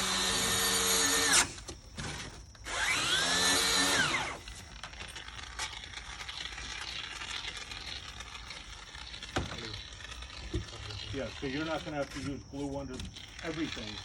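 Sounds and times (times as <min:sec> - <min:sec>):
cordless drill whine: 0:00.0 - 0:14.0.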